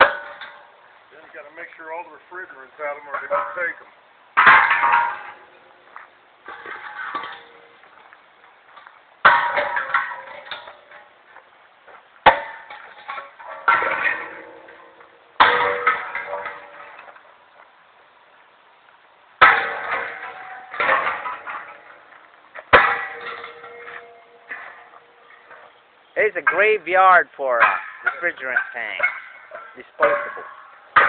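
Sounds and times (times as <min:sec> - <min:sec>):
metal cylinders struck clanging: 0:00.0 - 0:08.0, 0:08.7 - 0:11.2, 0:12.2 - 0:17.2, 0:19.4 - 0:31.0.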